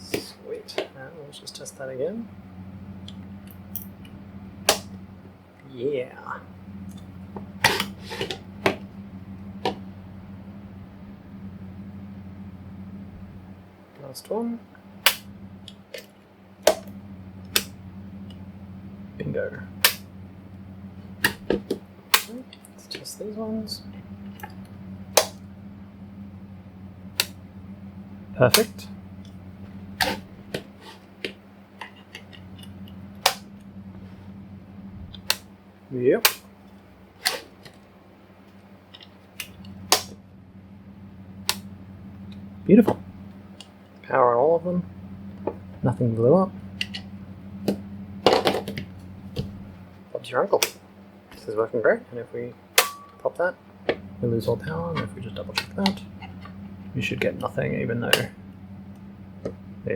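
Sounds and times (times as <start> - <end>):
electric fan whirring: 0.0 - 59.9.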